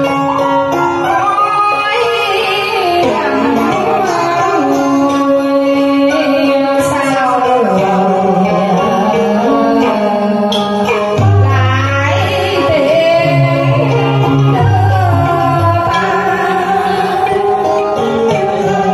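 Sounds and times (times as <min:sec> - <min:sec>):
woman singing into microphone: 0:00.0 - 0:18.9.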